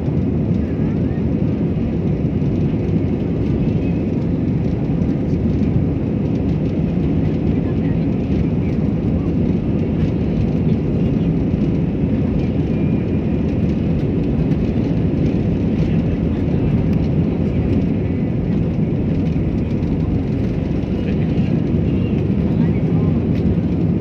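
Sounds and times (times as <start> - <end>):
jet engines deep rumble: 0.0 - 24.0.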